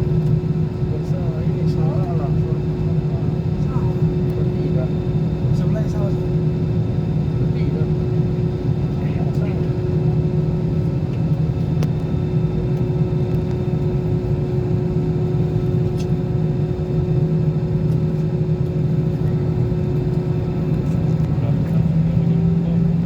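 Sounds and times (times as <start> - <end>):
airliner engines rumbling: 0.0 - 23.0.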